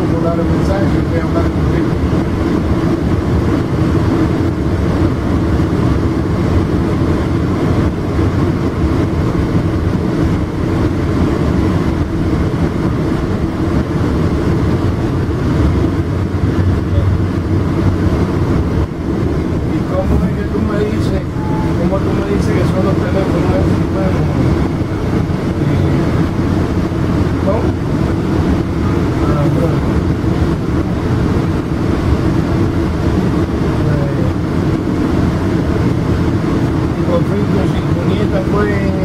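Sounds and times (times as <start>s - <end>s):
train rumbling at speed: 0.0s - 39.0s.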